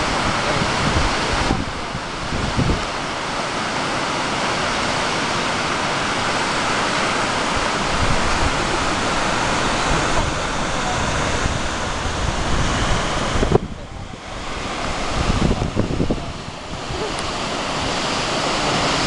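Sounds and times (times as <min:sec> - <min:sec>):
wind buffeting microphone: 0:00.0 - 0:03.2, 0:06.2 - 0:19.0
waterfall rushing: 0:00.0 - 0:19.0.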